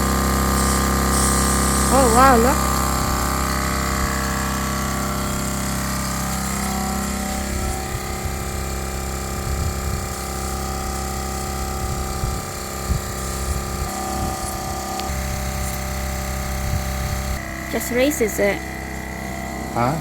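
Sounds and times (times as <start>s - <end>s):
air compressor motor running: 0.0s - 20.0s.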